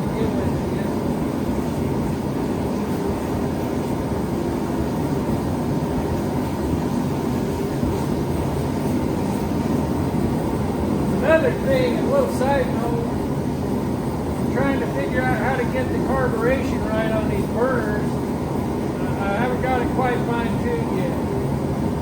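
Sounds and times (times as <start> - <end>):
gas forge burners running: 0.0 - 22.0.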